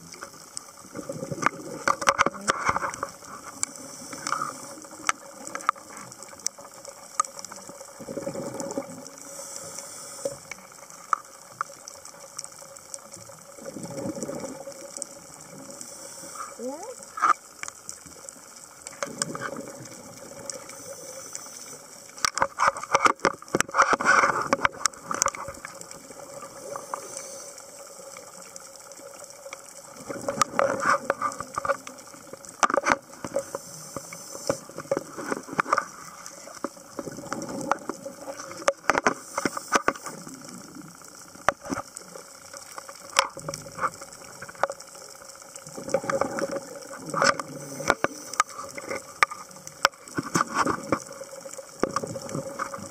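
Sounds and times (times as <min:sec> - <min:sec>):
exhaled bubbles underwater: 0:00.0 - 0:09.6, 0:12.6 - 0:22.3, 0:23.5 - 0:39.0, 0:39.9 - 0:52.9.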